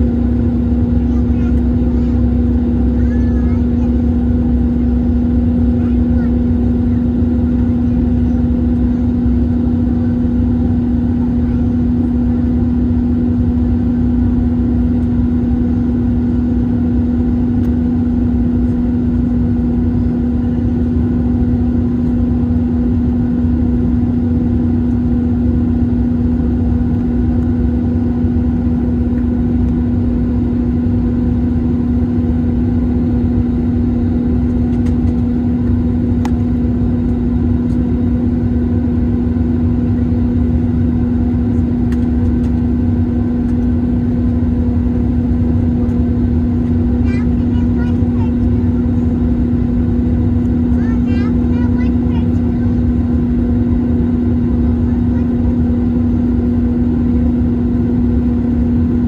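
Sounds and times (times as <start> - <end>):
constant hum: 0.0 - 59.0
jet airliner climbing rumble: 0.0 - 59.0.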